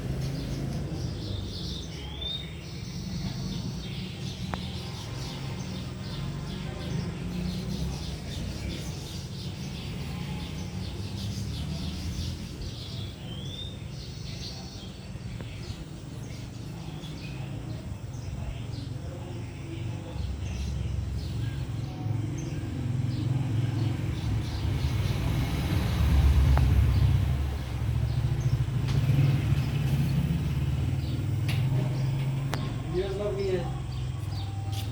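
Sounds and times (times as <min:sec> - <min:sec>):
road traffic rumble: 0:00.0 - 0:34.9
small birds chirping: 0:00.0 - 0:34.9.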